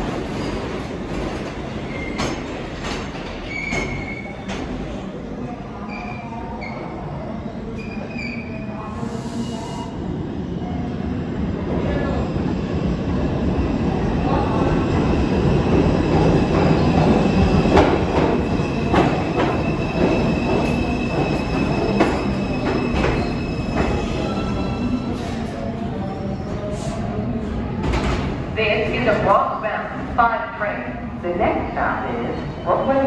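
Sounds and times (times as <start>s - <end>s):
subway train arriving: 0.0s - 33.0s.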